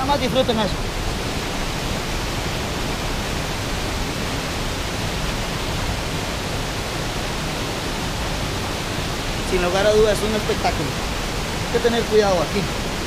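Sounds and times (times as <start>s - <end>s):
waterfall rushing into pool: 0.0s - 13.0s.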